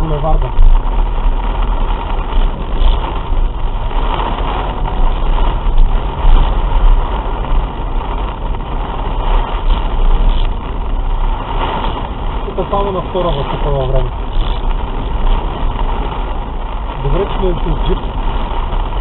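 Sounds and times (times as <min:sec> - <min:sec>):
car and tyres rumbling on a wet road: 0:00.0 - 0:19.0
heavy rain on a car roof: 0:00.0 - 0:19.0.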